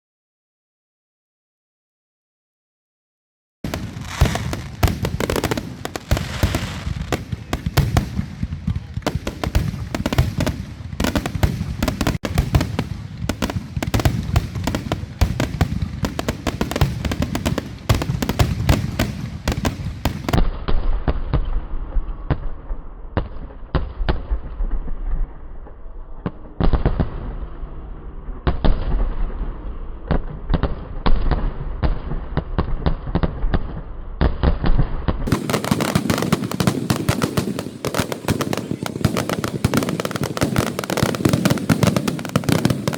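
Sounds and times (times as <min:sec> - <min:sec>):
fireworks crackling and banging: 0:03.6 - 0:42.9.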